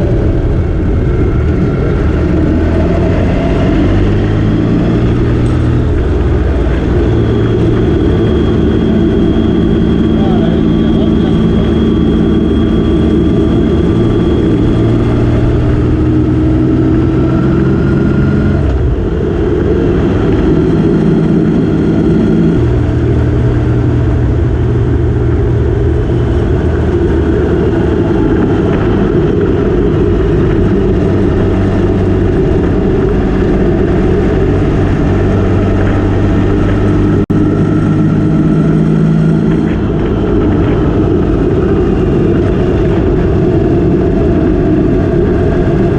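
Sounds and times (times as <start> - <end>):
motorcycle engine running: 0.0 - 45.9
wind rushing: 0.0 - 45.9.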